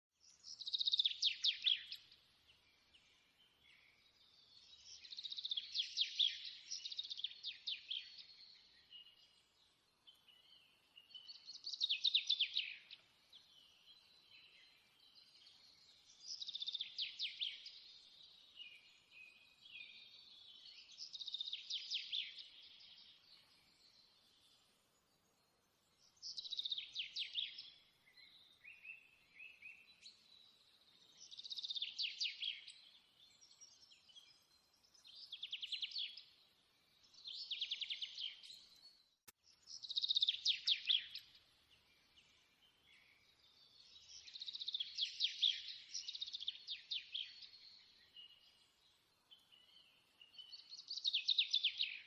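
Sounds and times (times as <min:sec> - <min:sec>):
songbird trilling and chirping: 0:00.2 - 0:24.7, 0:25.3 - 0:52.0.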